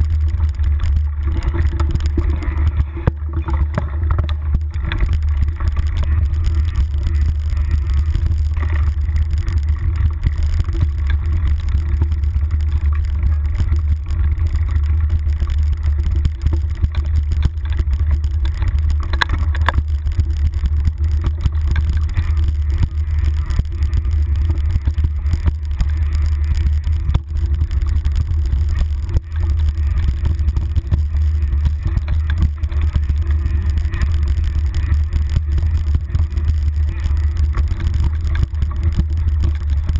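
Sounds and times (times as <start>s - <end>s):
low rumble of wind: 0.0s - 39.9s.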